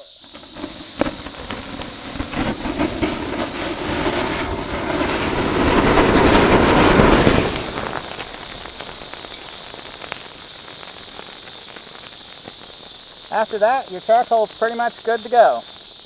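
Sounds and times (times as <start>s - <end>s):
fire roaring with crackles: 0.0s - 16.0s.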